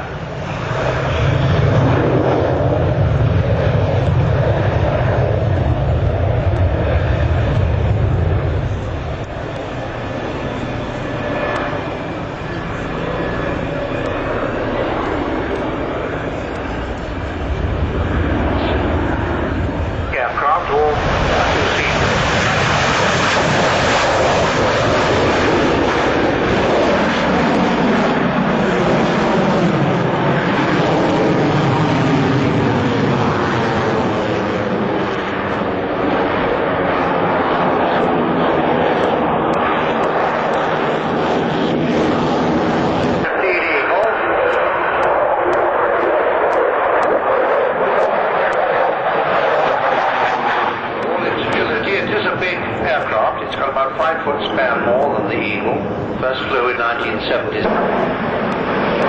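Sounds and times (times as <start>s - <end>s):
jet fighter engines roaring: 0.0s - 59.0s.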